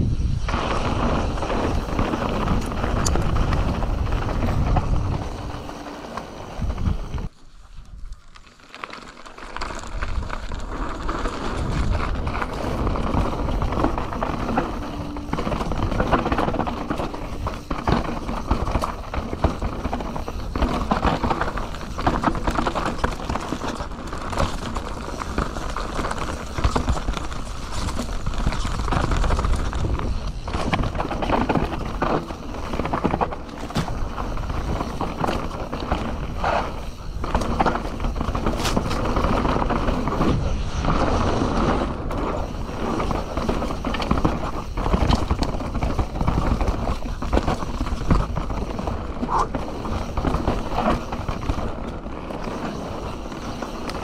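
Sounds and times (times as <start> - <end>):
bike rattling over bumps: 0.0 - 7.4, 8.0 - 54.0
bike tyres crunching on gravel: 0.2 - 54.0.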